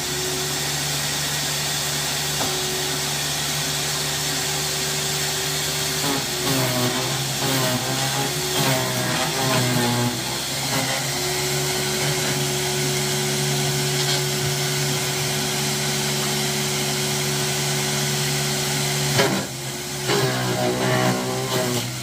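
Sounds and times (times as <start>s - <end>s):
garden shredder grinding: 0.0s - 22.0s.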